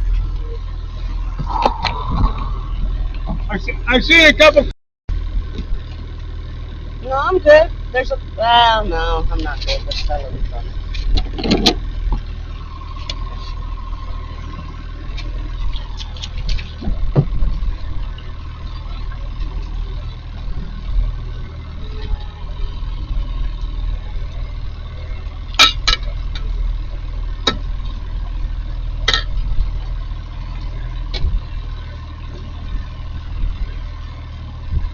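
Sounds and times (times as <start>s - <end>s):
boat engine idling: 0.0s - 34.9s.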